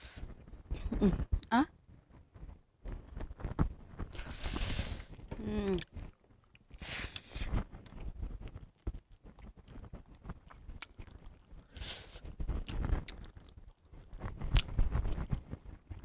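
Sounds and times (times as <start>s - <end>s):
food chewing close up: 2.9s - 16.0s.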